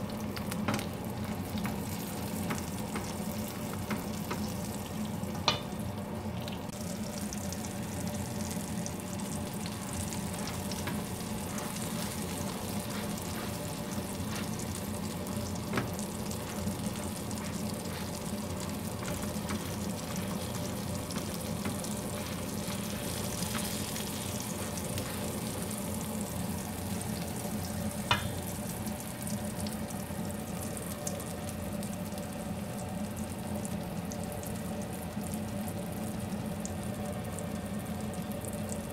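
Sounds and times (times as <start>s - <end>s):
omelettes sizzling in hot oil: 0.0s - 38.9s.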